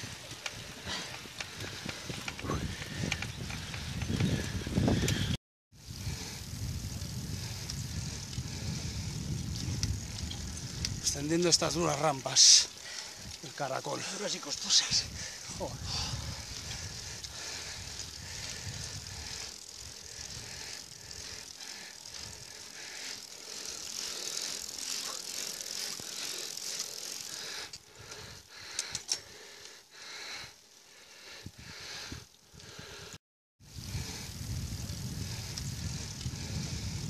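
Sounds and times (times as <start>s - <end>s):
bicycle rattling: 0.0s - 37.0s
wind and tyres hissing: 0.0s - 37.0s.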